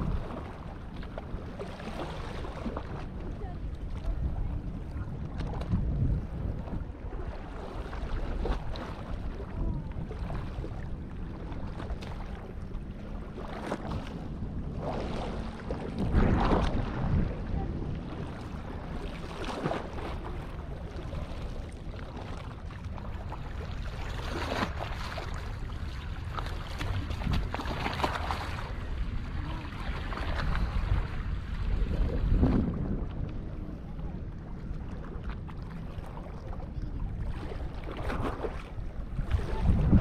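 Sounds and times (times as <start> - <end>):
waves lapping against rocks: 0.0 - 40.0
wind rumbling on microphone: 0.0 - 40.0.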